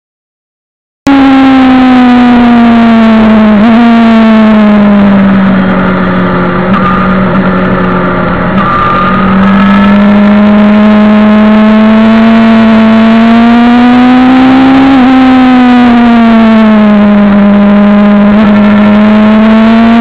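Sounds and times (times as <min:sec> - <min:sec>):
motorcycle engine revving: 0:01.1 - 0:20.0.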